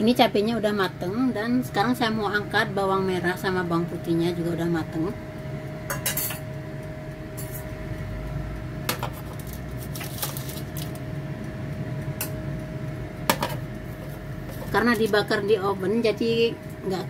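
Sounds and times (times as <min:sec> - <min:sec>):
electric oven humming: 0:00.0 - 0:17.0.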